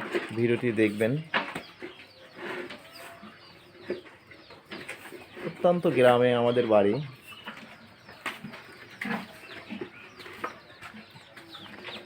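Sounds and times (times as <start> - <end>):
chickens clucking: 0.0 - 12.0
small birds chirping: 0.0 - 12.0.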